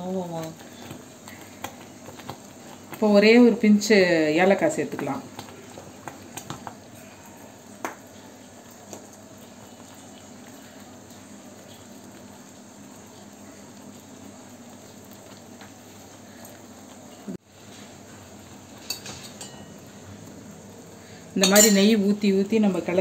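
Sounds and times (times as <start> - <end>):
batter bubbling and sizzling in pan: 0.0 - 23.0.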